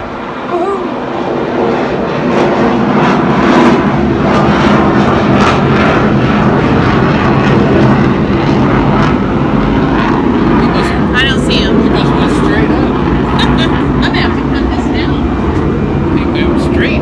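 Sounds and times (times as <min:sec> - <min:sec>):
airplane engine drone overhead: 0:00.0 - 0:17.0.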